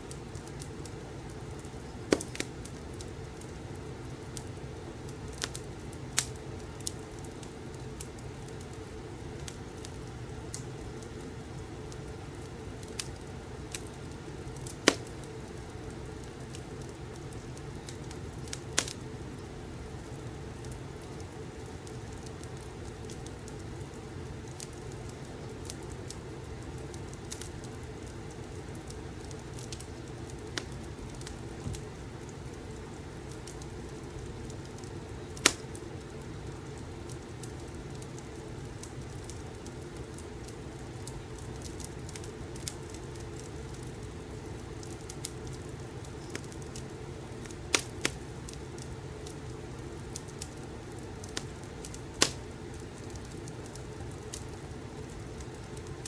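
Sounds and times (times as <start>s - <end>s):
burning logs rumbling: 0.0s - 56.0s
fire crackles and pops: 0.0s - 56.0s.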